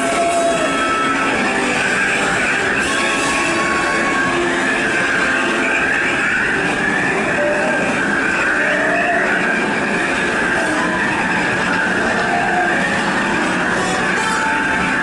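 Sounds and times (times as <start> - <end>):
passenger train running on track: 0.0 - 15.0.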